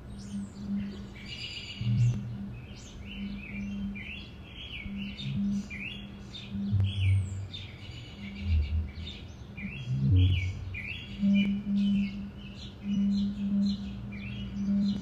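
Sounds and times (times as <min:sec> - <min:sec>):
low hum: 0:00.0 - 0:01.2, 0:01.8 - 0:15.0
birds chirping: 0:00.0 - 0:15.0.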